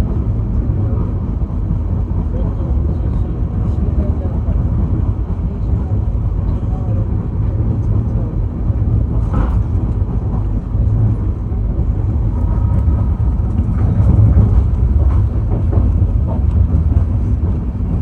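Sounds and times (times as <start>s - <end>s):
train rumbling past on track: 0.0s - 18.0s.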